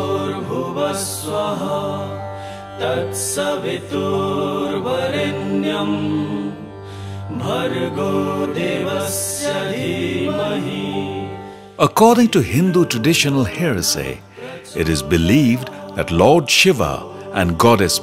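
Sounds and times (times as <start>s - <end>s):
mantra singing: 0.0s - 6.7s, 7.3s - 18.0s.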